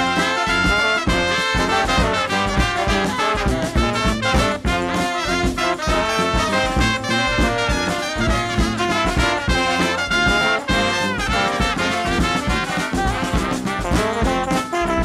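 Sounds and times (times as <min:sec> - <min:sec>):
upbeat swing music with brass: 0:00.0 - 0:15.0.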